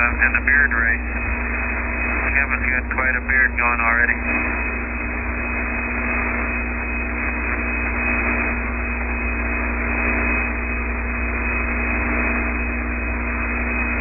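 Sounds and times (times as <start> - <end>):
low hum: 0.0 - 14.0
radio static hiss: 0.0 - 14.0.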